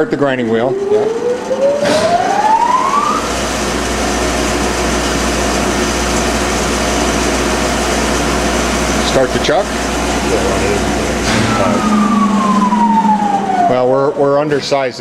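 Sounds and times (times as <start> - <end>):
grinder motor whine starting up: 0.0 - 15.0.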